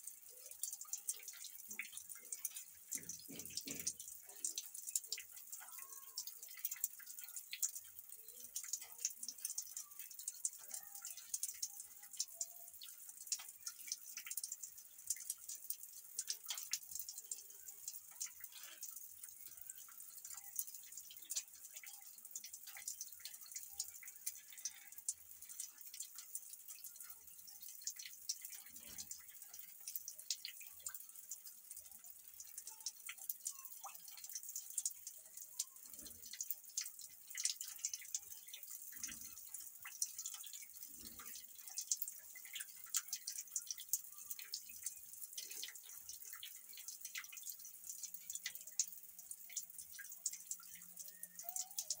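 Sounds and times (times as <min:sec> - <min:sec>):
water dripping: 0:00.0 - 0:52.0.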